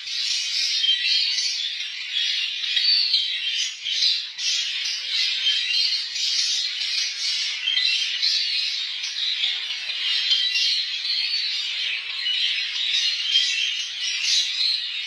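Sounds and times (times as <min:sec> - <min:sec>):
cage birds chirping and chattering: 0:00.0 - 0:15.0.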